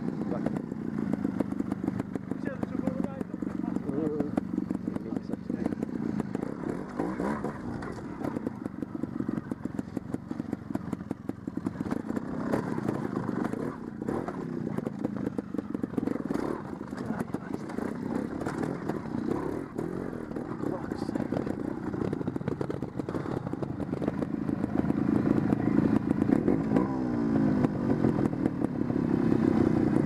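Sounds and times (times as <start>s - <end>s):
motorcycle engine revving: 0.0s - 30.0s
motorcycle knocking on rocks: 0.0s - 30.0s.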